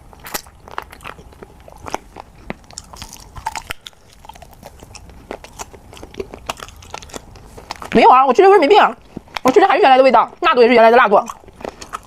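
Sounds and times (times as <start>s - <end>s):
chewing and crunching: 0.0s - 12.0s.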